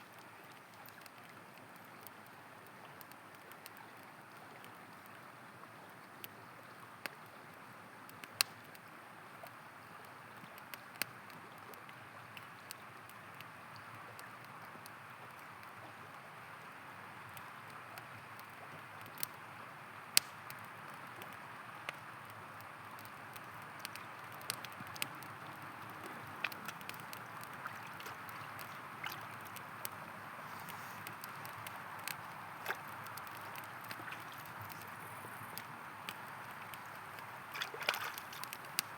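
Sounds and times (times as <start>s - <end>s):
campfire crackling and popping: 0.0s - 5.3s, 6.0s - 38.9s.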